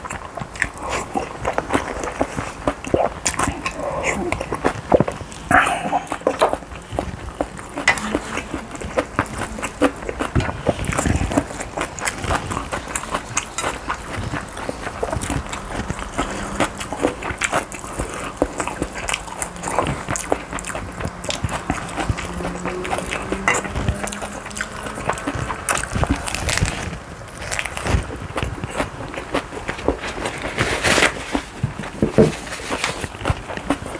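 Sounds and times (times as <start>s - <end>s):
chewing with wet mouth clicks: 0.0s - 30.5s.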